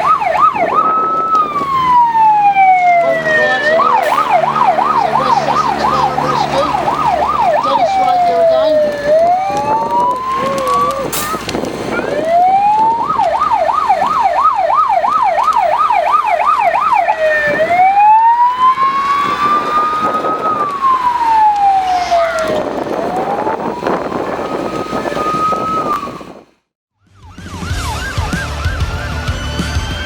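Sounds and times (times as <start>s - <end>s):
fire engine siren: 0.0s - 29.6s.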